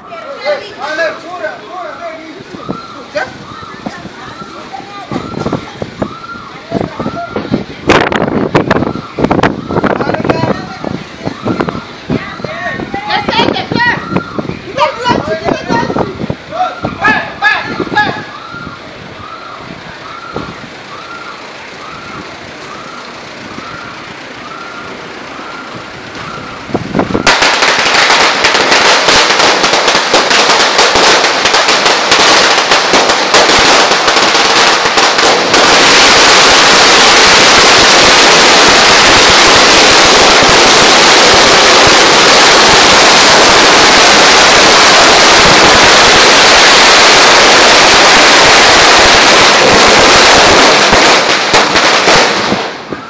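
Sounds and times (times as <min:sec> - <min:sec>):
firecrackers exploding: 0:00.0 - 0:12.2, 0:17.8 - 0:53.0.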